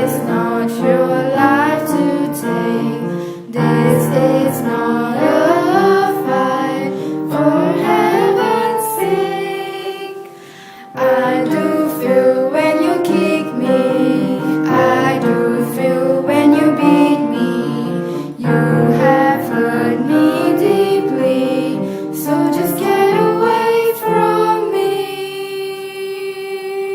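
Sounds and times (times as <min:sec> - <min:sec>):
woman singing: 0:00.0 - 0:10.4, 0:11.0 - 0:26.9
instrumental accompaniment: 0:00.0 - 0:25.2.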